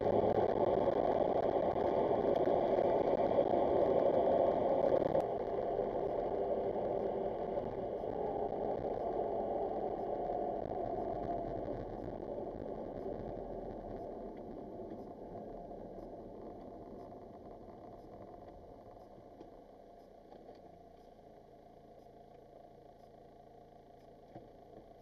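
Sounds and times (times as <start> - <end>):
car engine and tyre noise: 0.0 - 23.2.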